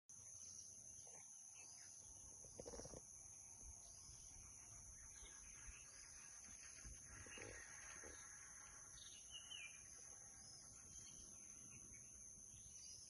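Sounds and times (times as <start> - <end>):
insect drone: 0.1 - 13.0.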